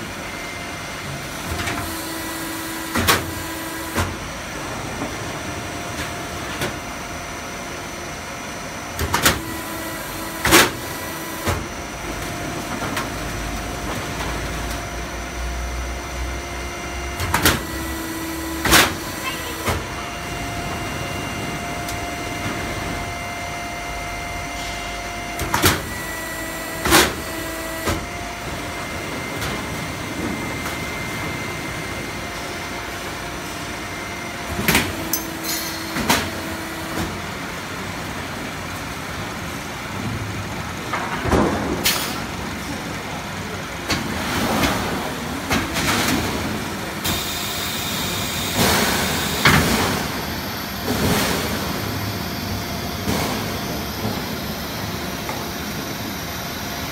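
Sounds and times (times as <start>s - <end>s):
steady machine hum: 0.0s - 56.9s.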